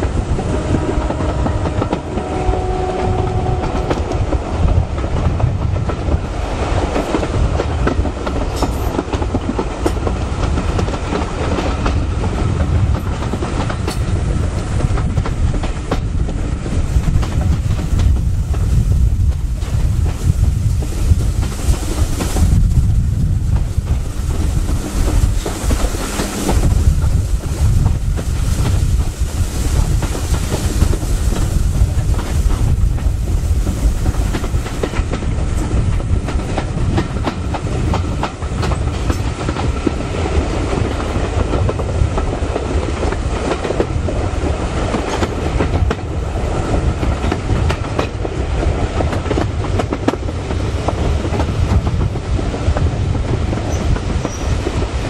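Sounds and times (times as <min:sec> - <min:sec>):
train running rumble: 0:00.0 - 0:55.0
train wheels clicking over rail joints: 0:00.0 - 0:55.0
wind buffeting microphone: 0:00.0 - 0:55.0.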